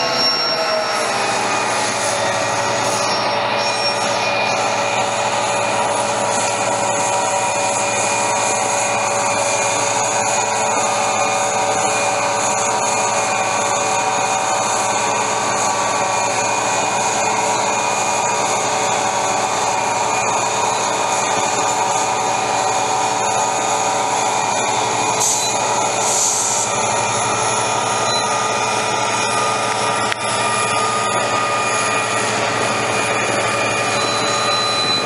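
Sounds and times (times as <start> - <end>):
diesel locomotive whine and rumble: 0.0 - 35.0.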